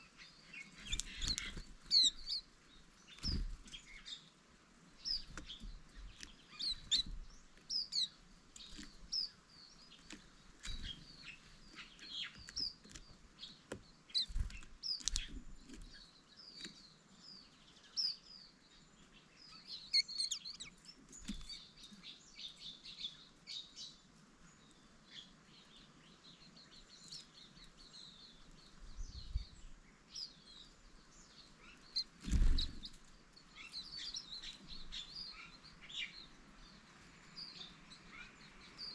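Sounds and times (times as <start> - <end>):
birds twittering: 0.0 - 38.9.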